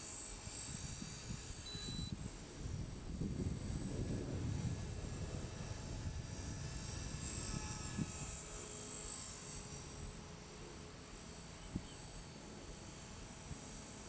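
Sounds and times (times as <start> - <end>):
rc helicopter whine: 0.0 - 14.0
wind rumble on microphone: 0.0 - 14.0.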